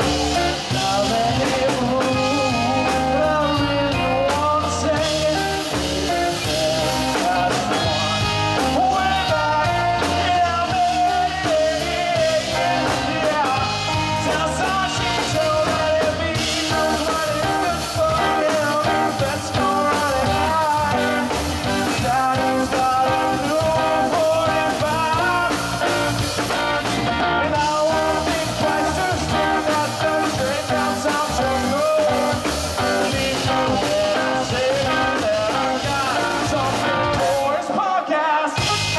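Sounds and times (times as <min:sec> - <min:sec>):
live rock band playing: 0:00.0 - 0:38.9
man singing lead: 0:00.0 - 0:38.9.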